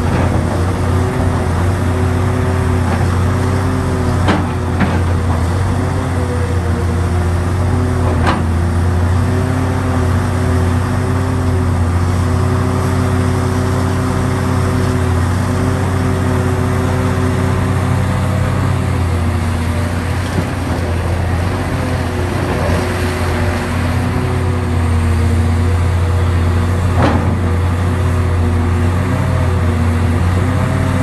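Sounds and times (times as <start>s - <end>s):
excavator diesel engine under load: 0.0s - 31.0s.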